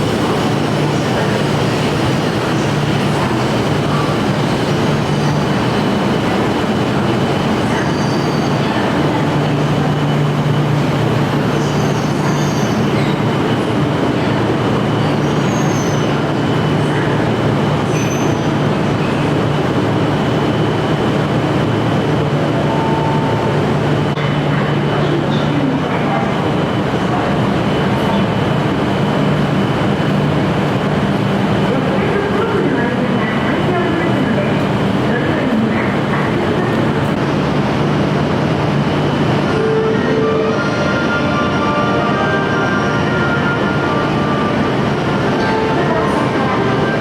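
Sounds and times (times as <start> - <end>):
train equipment low drone: 0.0 - 47.0.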